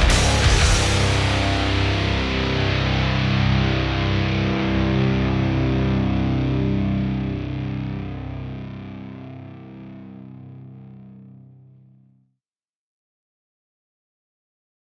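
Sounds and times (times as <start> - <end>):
distorted electric guitar chord ringing: 0.0 - 12.0.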